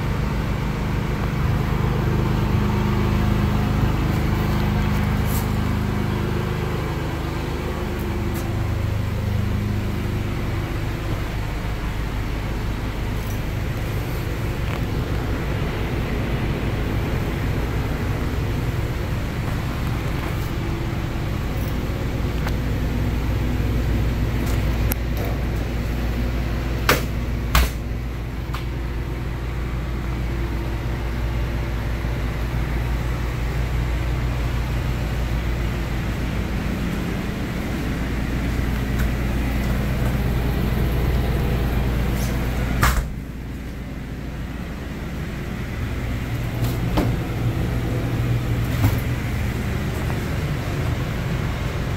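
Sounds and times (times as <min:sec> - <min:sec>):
machinery humming: 0:00.0 - 0:51.9.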